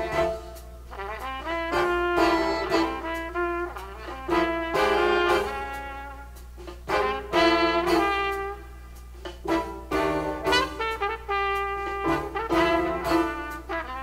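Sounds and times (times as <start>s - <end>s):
jazz big band playing: 0.0s - 14.0s.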